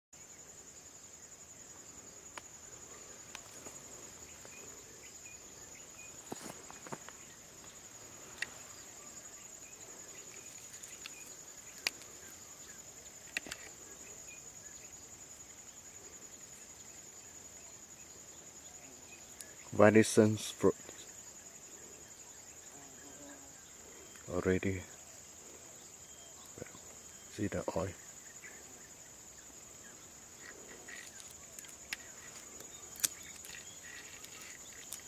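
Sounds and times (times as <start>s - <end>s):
insects trilling: 0.2s - 35.0s.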